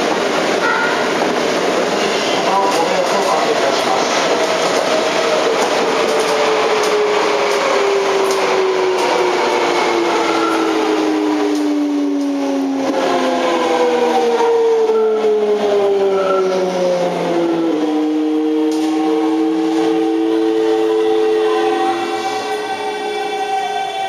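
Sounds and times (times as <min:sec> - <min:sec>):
wheel and tunnel rumble: 0:00.0 - 0:23.1.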